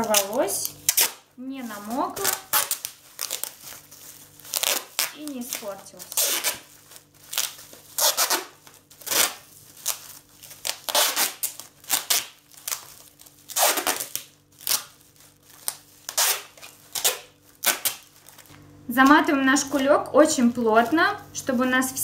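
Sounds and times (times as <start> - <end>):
packing tape ripping off roll: 0.0 - 18.6.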